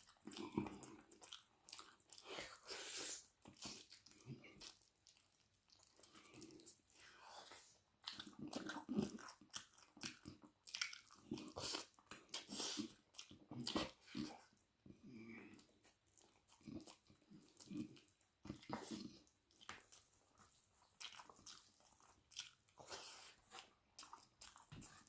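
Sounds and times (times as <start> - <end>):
person chewing and crunching food: 0.0 - 25.0.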